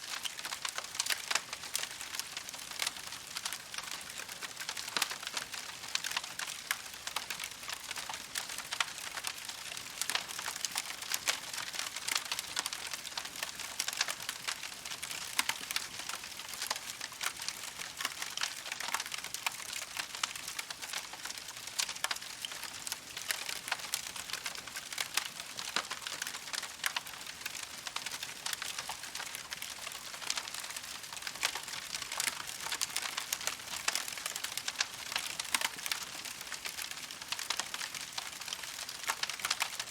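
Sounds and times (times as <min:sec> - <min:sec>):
campfire crackling: 0:00.1 - 0:39.9.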